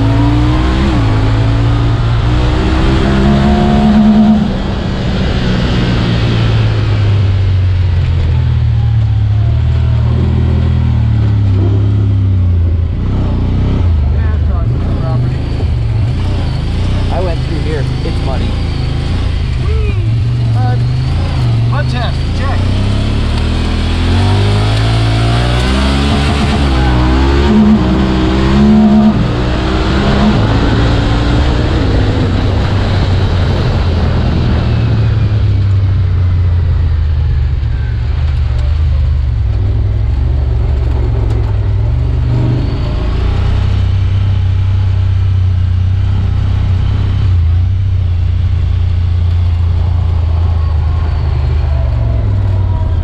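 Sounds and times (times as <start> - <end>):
vehicle engine revving: 0.0 - 53.0.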